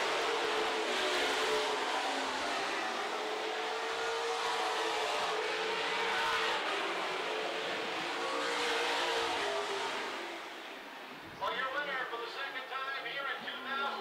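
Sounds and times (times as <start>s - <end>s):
race cars passing: 0.0s - 14.0s.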